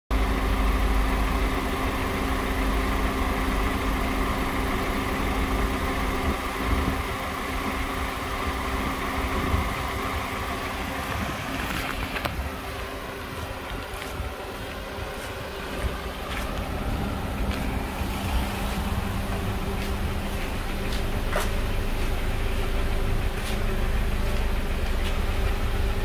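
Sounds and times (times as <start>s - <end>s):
car engine idling: 0.1s - 26.0s.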